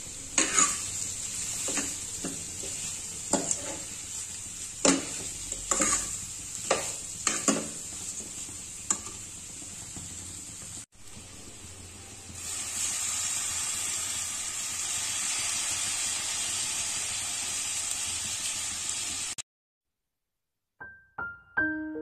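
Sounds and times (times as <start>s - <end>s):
chicken sizzling in a pan: 0.0s - 19.4s.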